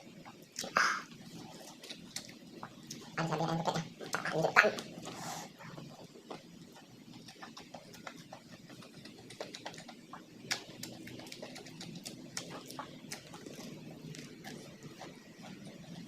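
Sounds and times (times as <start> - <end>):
person chewing food: 0.1 - 16.0.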